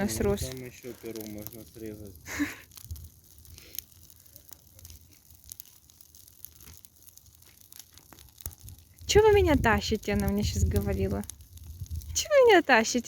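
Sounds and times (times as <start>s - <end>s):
sharp pops and snaps: 0.0s - 12.4s
bonfire crackling: 0.0s - 13.0s.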